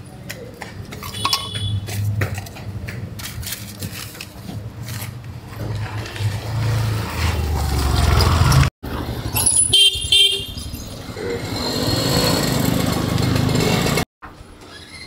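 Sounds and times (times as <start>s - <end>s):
low traffic rumble: 0.0s - 14.1s.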